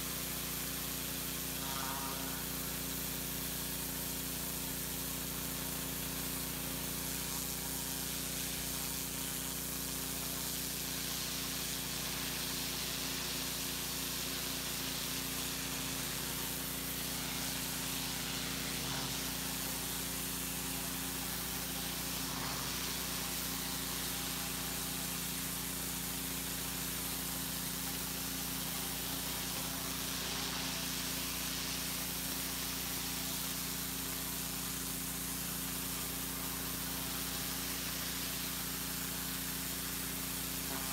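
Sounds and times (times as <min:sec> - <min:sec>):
pressure washer motor humming: 0:00.0 - 0:40.9
water spray hissing on brick: 0:00.0 - 0:40.9.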